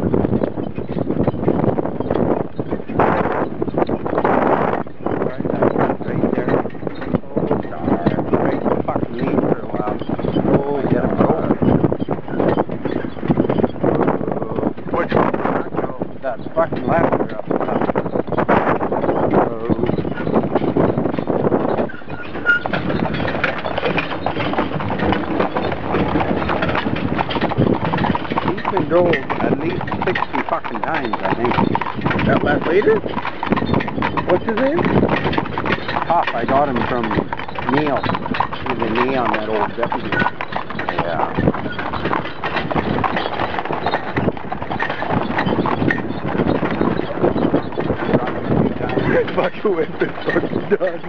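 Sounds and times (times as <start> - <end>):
horses galloping hoofbeats: 0.0 - 51.0
wagon rattling and rumbling: 0.0 - 51.0.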